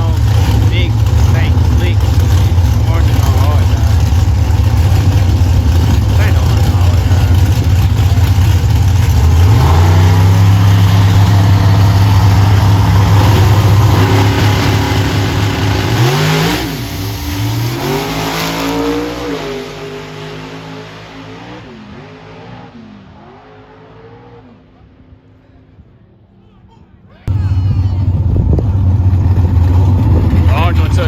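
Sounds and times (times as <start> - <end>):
car engine revving: 0.0 - 25.2, 27.3 - 31.0.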